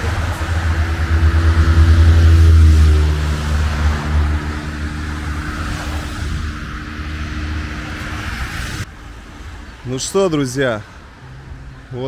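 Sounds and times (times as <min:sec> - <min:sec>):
cars and vans driving past: 0:00.0 - 0:12.0.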